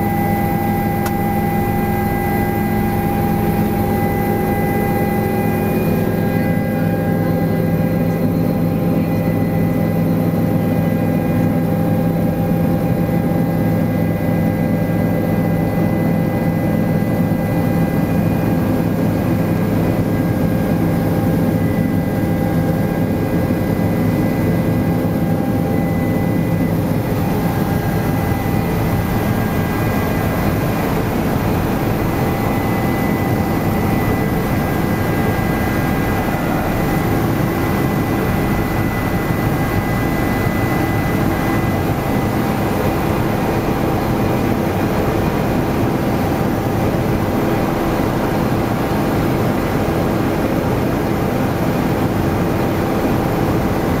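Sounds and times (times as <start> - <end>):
helicopter engine and rotor drone: 0.0 - 54.0
steady whining tones: 0.0 - 54.0.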